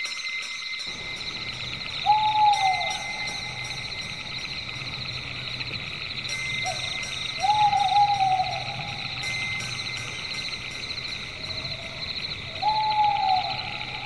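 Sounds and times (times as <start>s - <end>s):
insects buzzing: 0.0s - 14.0s
bird calling falling notes: 1.0s - 5.8s, 6.5s - 14.0s.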